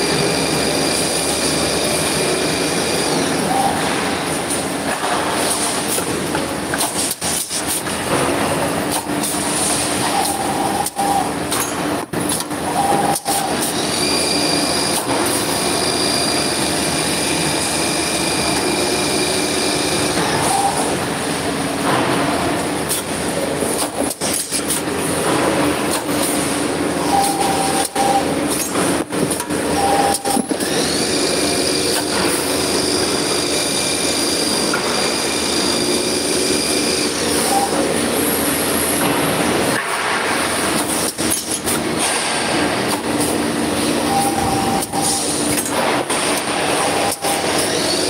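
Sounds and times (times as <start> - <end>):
machine high whine: 0.0 - 7.2, 8.0 - 11.8, 12.4 - 48.0.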